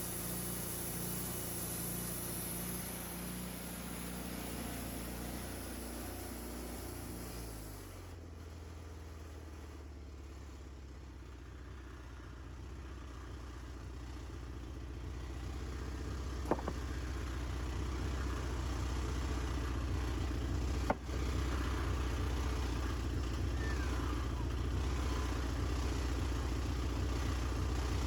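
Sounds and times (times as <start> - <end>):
engine running with low hum: 0.0 - 28.0.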